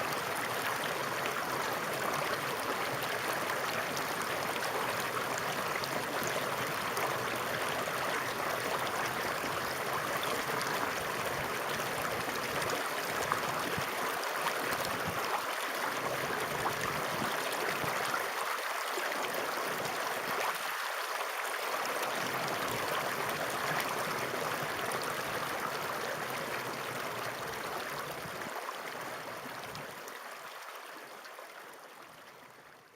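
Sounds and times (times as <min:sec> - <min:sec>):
flowing water rushing: 0:00.0 - 0:32.7.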